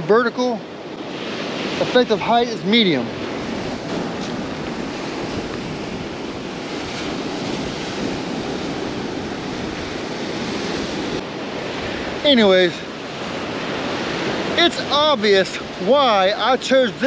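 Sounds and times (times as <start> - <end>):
surf washing onto beach: 0.0 - 17.0
wind rumbling on microphone: 0.6 - 15.9.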